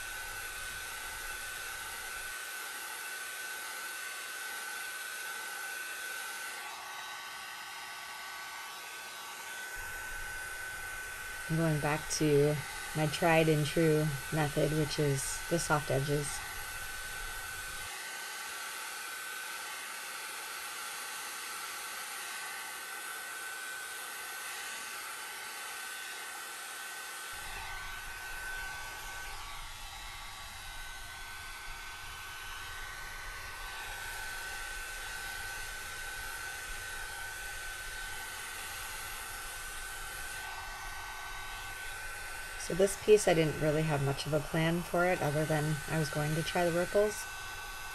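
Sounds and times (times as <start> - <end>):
hot air brush blowing: 0.0 - 47.9.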